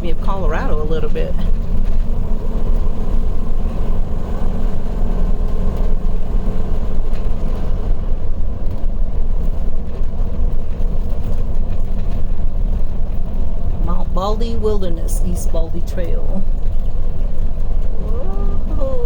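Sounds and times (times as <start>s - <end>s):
vehicle engine and tyre noise: 0.0s - 19.0s.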